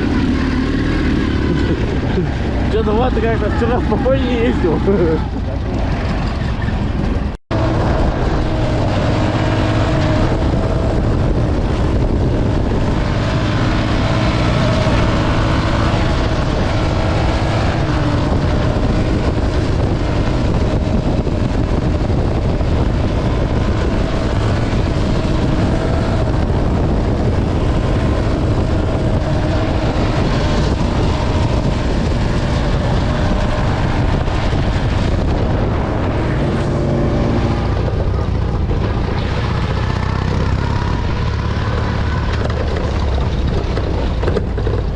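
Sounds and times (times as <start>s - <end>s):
motorcycle engine running: 0.0s - 44.9s
wind noise: 0.0s - 44.9s.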